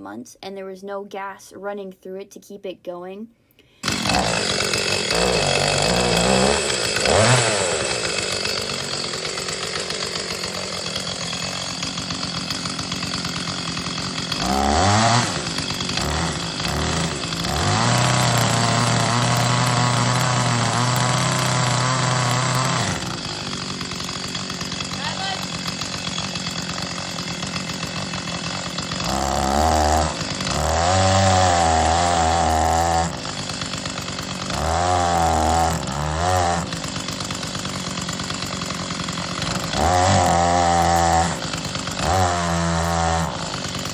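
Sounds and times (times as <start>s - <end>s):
chainsaw revving and idling: 3.7s - 43.9s.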